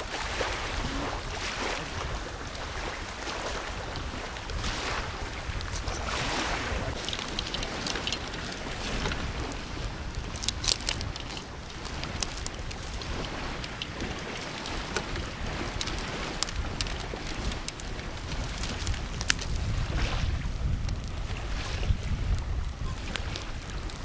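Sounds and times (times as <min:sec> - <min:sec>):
campfire crackling: 0:02.0 - 0:24.0.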